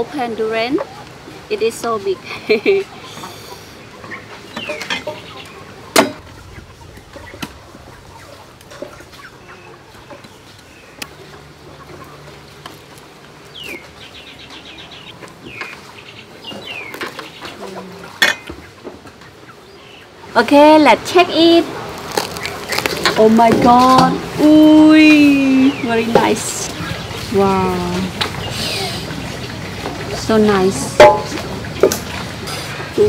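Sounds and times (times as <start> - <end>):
chickens clucking: 0.6 - 20.3, 21.8 - 33.0.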